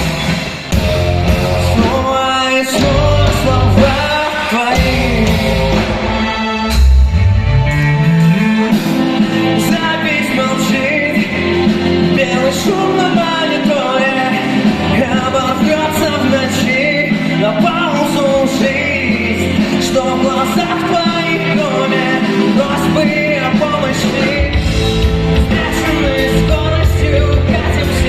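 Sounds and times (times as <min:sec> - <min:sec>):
rock band playing live: 0:00.0 - 0:28.0
person singing: 0:01.2 - 0:06.9, 0:08.0 - 0:28.0.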